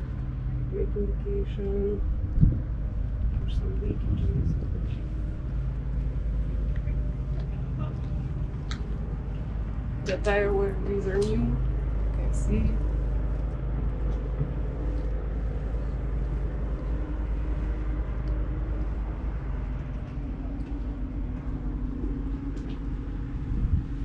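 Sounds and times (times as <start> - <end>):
machinery humming: 0.0 - 24.0
steady low rumble: 0.0 - 24.0.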